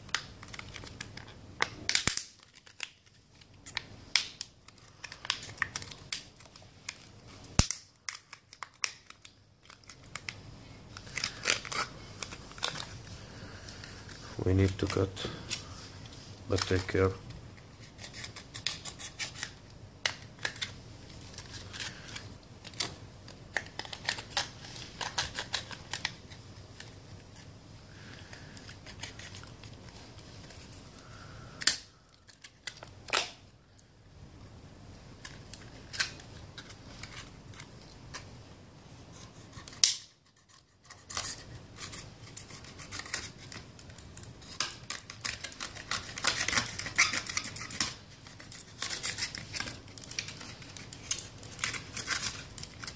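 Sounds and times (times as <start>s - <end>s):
plastic crackling and crinkling: 0.0s - 33.9s, 35.1s - 38.4s, 39.1s - 52.9s.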